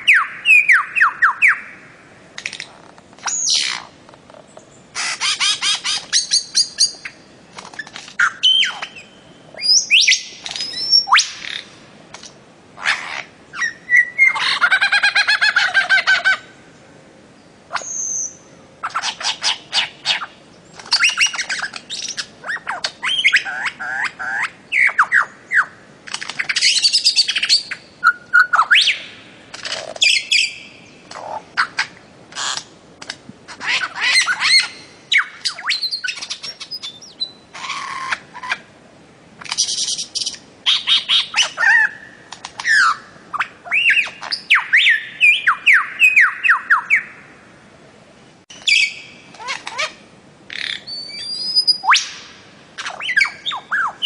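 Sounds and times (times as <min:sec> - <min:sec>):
bird squawks and chirps: 0:03.2 - 0:04.0, 0:04.9 - 0:11.7, 0:12.8 - 0:16.5, 0:17.7 - 0:32.7, 0:33.5 - 0:38.6, 0:39.4 - 0:47.2, 0:48.6 - 0:54.0.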